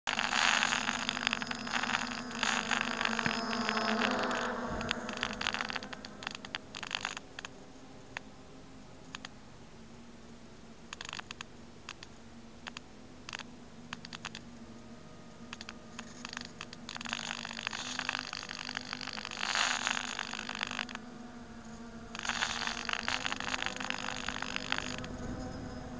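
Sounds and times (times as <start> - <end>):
drone motors buzzing: 0.1 - 25.9
sharp ticks and crackling: 0.1 - 25.9.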